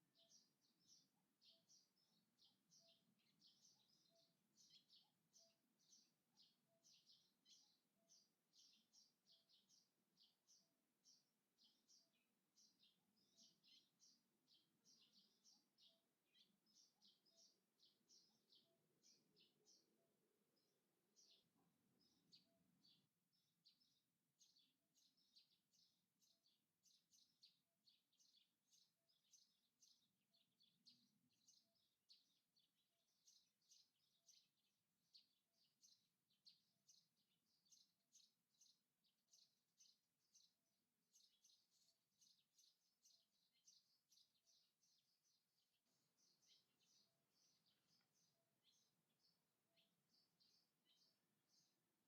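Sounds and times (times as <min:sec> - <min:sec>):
faint high bird chirping: 0:00.0 - 0:51.8.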